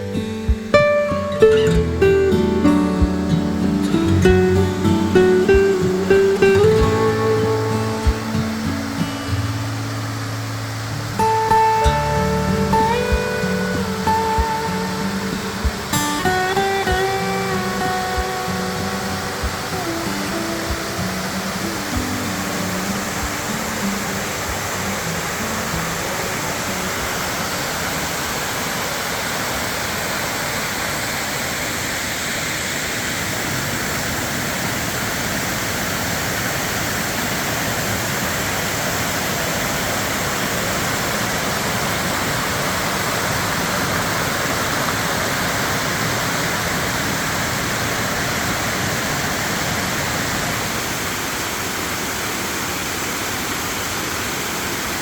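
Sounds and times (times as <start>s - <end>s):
waterfall pouring over rocks: 0.0s - 55.0s.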